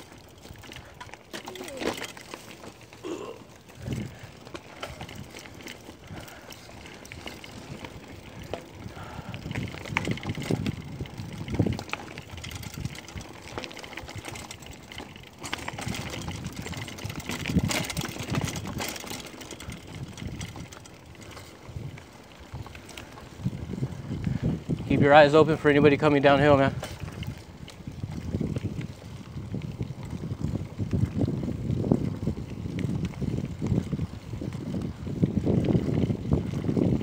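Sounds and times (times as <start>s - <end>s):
bike rattling over bumps: 0.0s - 37.0s
bike tyres crunching on gravel: 0.0s - 37.0s.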